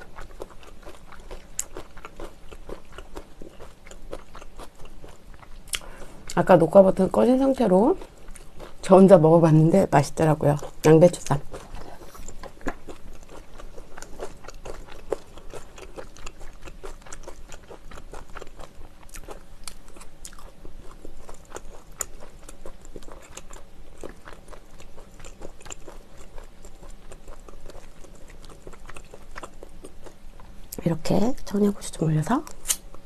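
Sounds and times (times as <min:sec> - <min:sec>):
chewing crunchy leaf wrap: 0:00.0 - 0:31.5.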